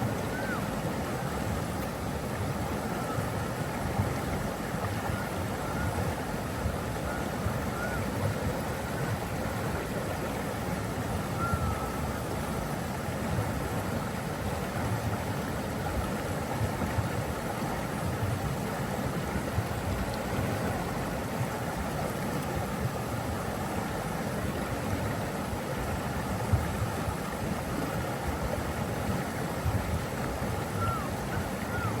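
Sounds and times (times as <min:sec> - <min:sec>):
rushing flowing water: 0:00.0 - 0:32.0.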